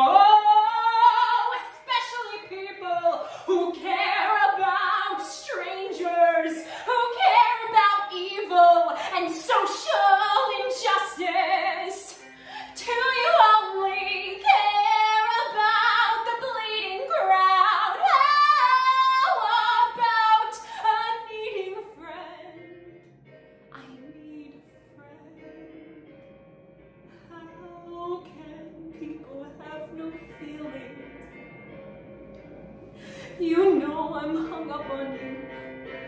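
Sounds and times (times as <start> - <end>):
woman singing a ballad: 0.0 - 22.9, 23.7 - 26.2, 27.2 - 31.2, 33.0 - 36.0.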